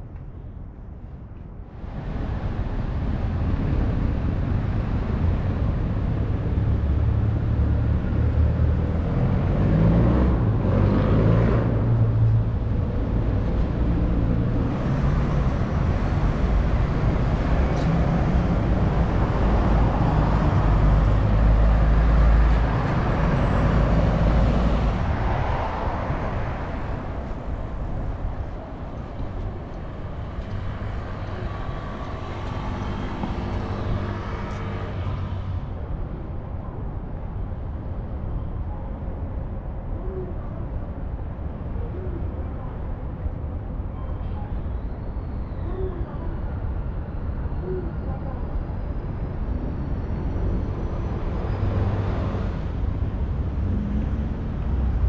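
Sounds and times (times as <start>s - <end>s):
vehicles passing: 1.6s - 55.0s.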